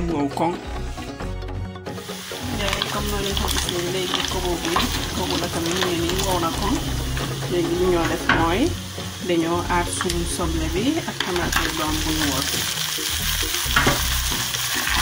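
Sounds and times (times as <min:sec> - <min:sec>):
paste sizzling in oil: 0:01.8 - 0:15.0.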